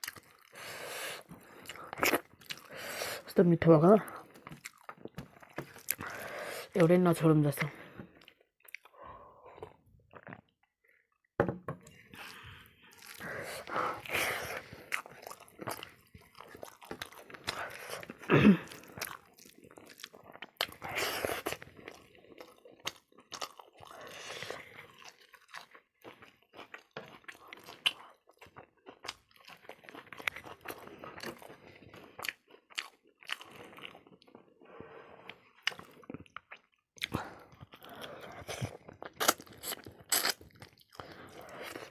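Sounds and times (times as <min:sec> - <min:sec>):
person chewing crunchy food: 0:00.0 - 0:03.3, 0:04.1 - 0:06.5, 0:08.0 - 0:11.2, 0:11.8 - 0:41.9.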